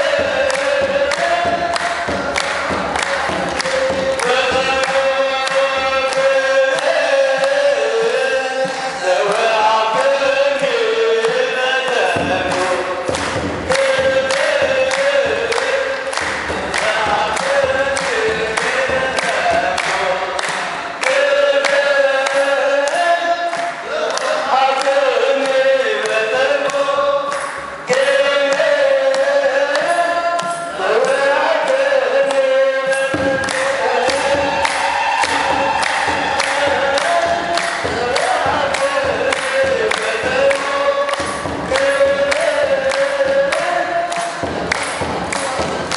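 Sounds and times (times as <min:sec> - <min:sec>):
congregation chanting: 0:00.0 - 0:45.9
drum beats: 0:00.0 - 0:45.9
hand clapping: 0:00.0 - 0:45.9.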